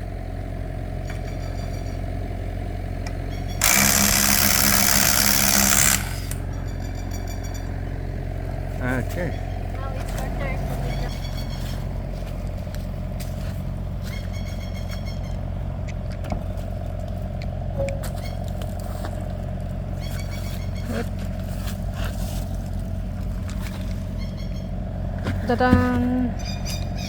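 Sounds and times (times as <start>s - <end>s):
excavator engine idling: 0.0s - 27.0s.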